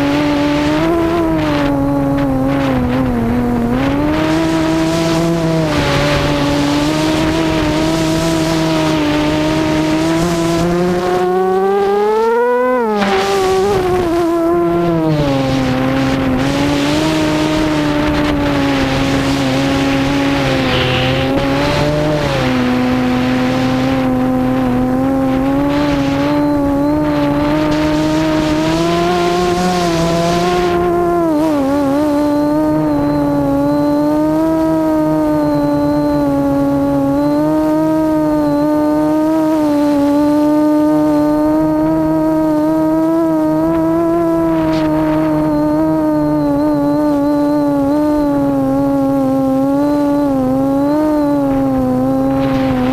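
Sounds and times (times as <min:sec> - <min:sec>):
drone motors whining: 0:00.0 - 0:52.9.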